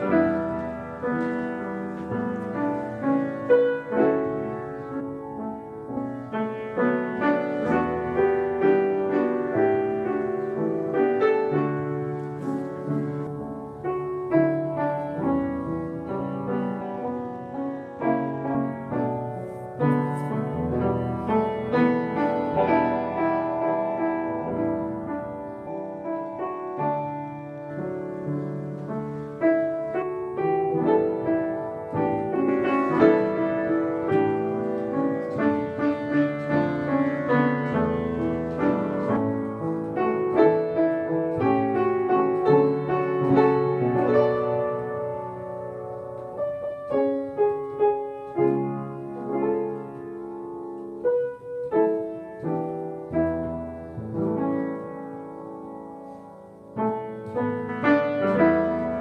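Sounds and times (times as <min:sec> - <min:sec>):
solo piano melody: 0:00.0 - 0:59.0.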